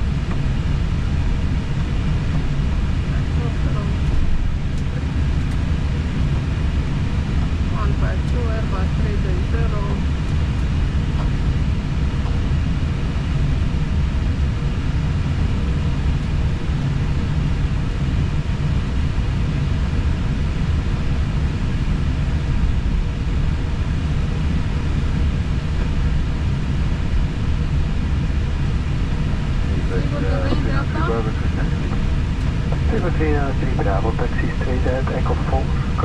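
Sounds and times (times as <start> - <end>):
cockpit low rumble: 0.0 - 36.0
faint steady hum: 0.0 - 36.0.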